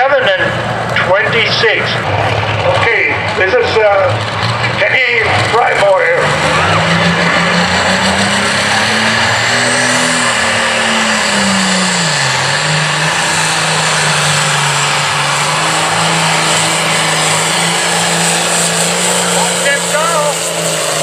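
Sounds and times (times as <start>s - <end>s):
tractor diesel engine running loud: 0.0s - 21.0s.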